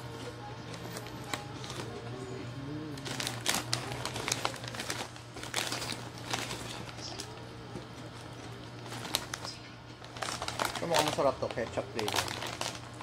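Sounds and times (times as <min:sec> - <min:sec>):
plastic bag crinkling: 0:00.1 - 0:02.1, 0:02.9 - 0:13.0.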